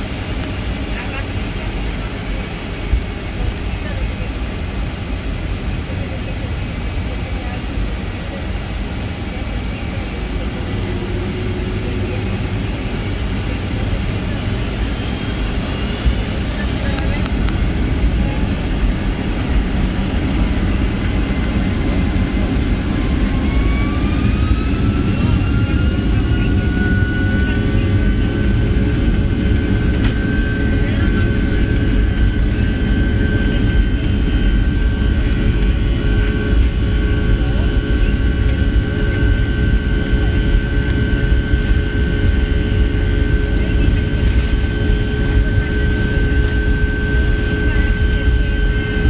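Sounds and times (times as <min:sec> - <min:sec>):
jet engine whine rising: 0:00.0 - 0:49.0
jet engines rumbling in cabin: 0:00.0 - 0:49.0.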